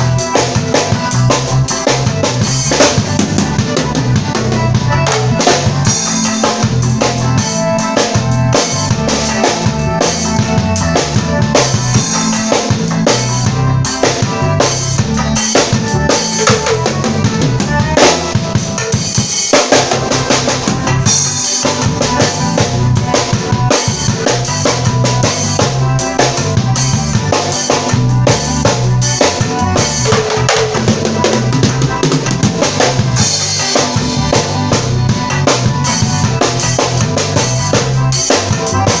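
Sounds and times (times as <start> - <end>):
drum kit playing: 0.0 - 39.0.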